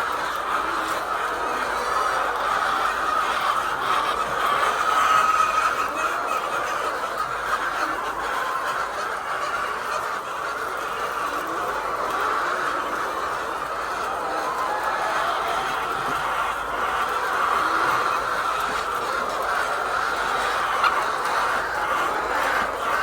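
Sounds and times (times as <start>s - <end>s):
hens clucking and squawking: 0.0s - 23.0s.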